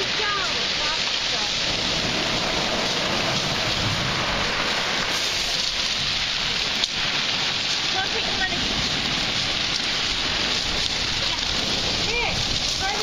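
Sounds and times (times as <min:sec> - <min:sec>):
surf breaking on pebble beach: 0:00.0 - 0:13.0.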